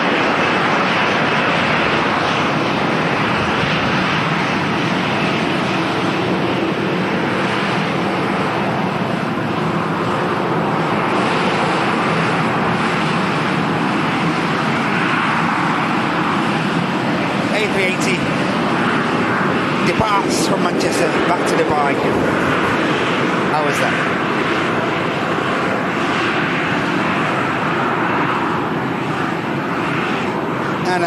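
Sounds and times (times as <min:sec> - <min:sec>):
jet engines at takeoff power: 0:00.0 - 0:31.0.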